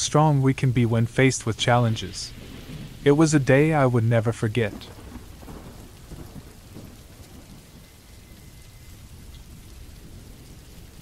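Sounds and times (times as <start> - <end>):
rain hiss: 0.0 - 11.0
low rumble: 0.5 - 11.0.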